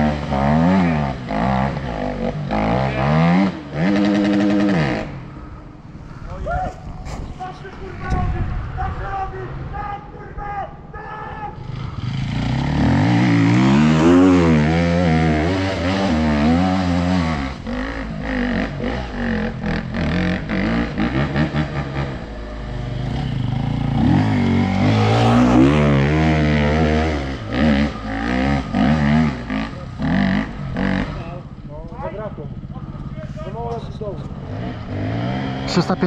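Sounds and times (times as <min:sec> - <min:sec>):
dirt bike engine revving: 0:00.0 - 0:05.6, 0:11.6 - 0:36.0.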